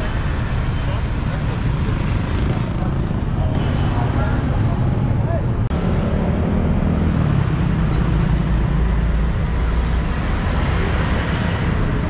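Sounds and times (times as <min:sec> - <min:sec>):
cars and tyres passing: 0:00.0 - 0:12.0
motorbike and scooter engines: 0:00.0 - 0:12.0.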